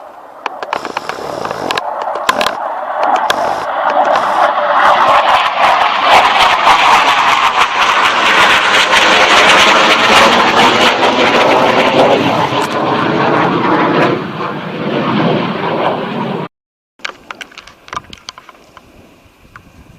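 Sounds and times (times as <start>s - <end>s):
fighter jet low pass: 0.0s - 16.5s.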